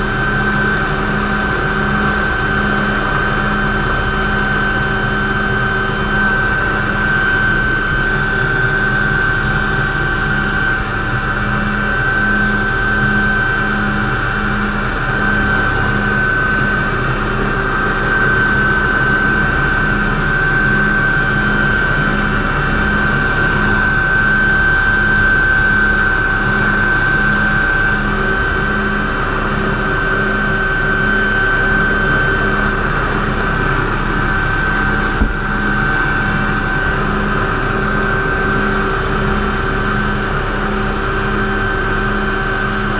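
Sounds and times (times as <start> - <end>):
helicopter rotor beat: 0.0 - 42.9
helicopter turbine whine: 0.0 - 42.9.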